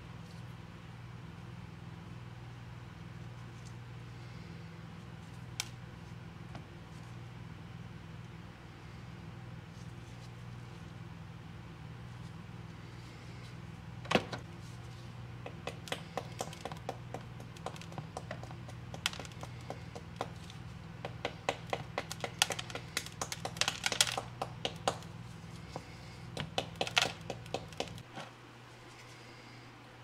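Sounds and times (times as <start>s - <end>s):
low hum: 0.0s - 26.5s.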